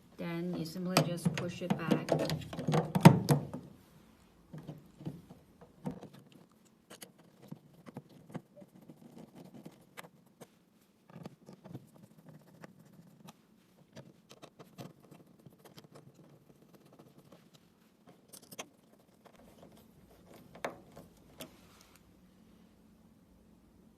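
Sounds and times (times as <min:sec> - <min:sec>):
clicks and rustles of handling: 0:00.4 - 0:22.2.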